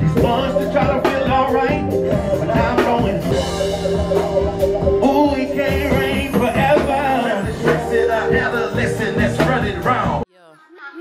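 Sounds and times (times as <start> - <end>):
loud beat with drums: 0.0 - 10.2
person rapping into microphone: 0.0 - 11.0.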